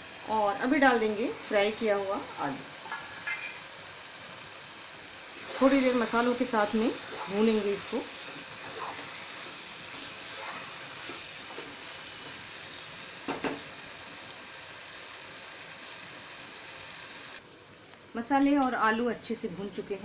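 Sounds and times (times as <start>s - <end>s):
potatoes sizzling in a pan: 0.0s - 20.0s.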